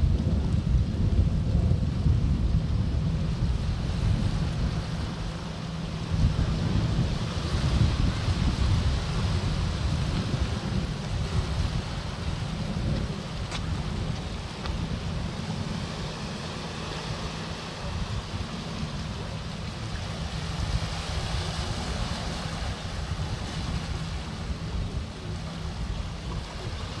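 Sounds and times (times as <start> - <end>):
low surf rumble: 0.0 - 27.0
waves washing over rocky shore: 0.0 - 27.0.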